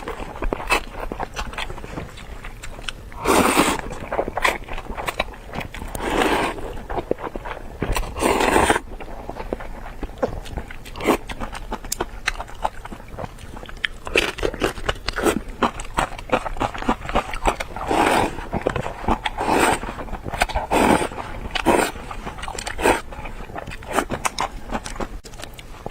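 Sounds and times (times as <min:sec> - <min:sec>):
wet chewing clicks: 0:00.0 - 0:25.9.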